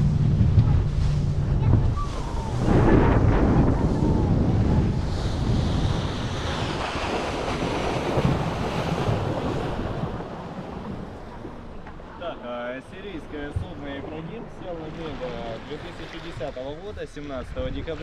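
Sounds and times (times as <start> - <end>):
water rushing from boat hull: 0.0 - 18.0
wind buffeting microphone: 0.0 - 18.0.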